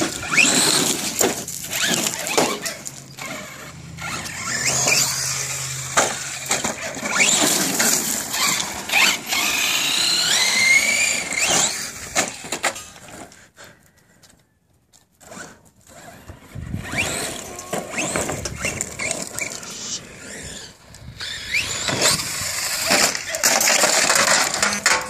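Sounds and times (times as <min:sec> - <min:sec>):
electric motor whining: 0:00.0 - 0:12.7, 0:15.3 - 0:24.9
tyres scrabbling over gravel: 0:00.0 - 0:25.0.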